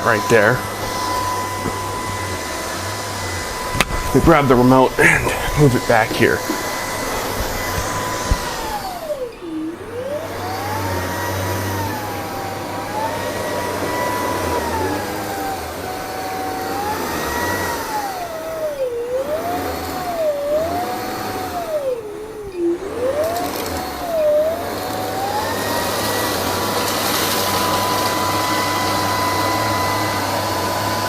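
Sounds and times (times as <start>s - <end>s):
robot vacuum motor whine: 0.0s - 31.0s.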